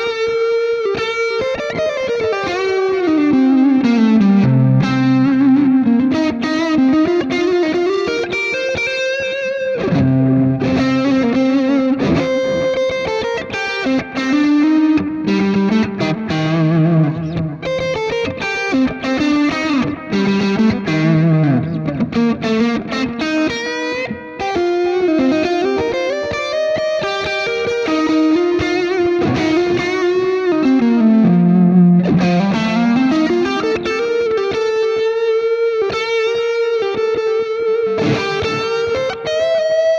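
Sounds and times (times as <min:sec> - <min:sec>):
electric guitar melody: 0:00.0 - 0:39.9.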